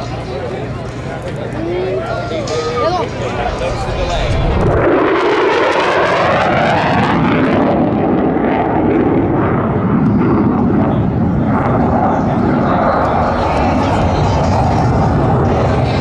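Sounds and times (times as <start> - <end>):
fighter jet flying past: 2.3 - 16.0.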